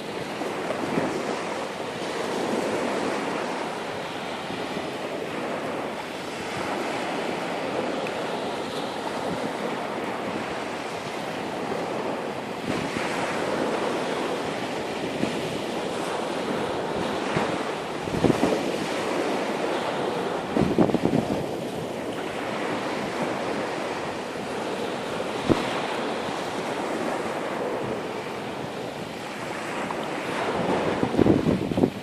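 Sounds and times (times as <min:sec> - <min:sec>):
ocean surf on beach: 0:00.0 - 0:32.0
wind buffeting microphone: 0:00.0 - 0:32.0.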